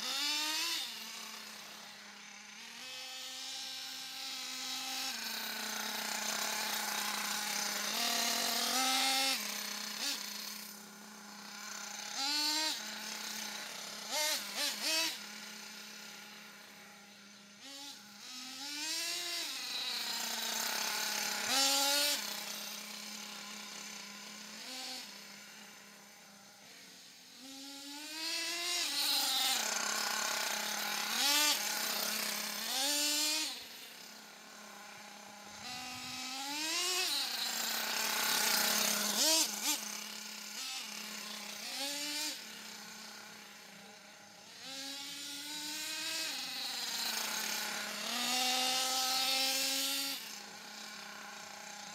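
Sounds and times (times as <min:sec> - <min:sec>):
nitro rc car engine revving: 0:00.0 - 0:51.9.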